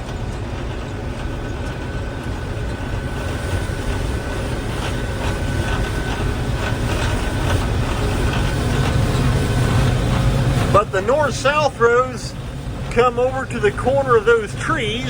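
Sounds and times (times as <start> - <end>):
combine harvester engine drone: 0.0 - 15.0
threshing machinery clatter: 0.0 - 15.0.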